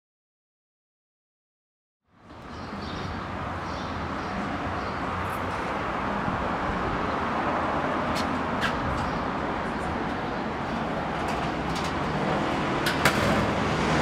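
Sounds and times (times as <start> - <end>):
outdoor background noise: 2.0 - 14.0.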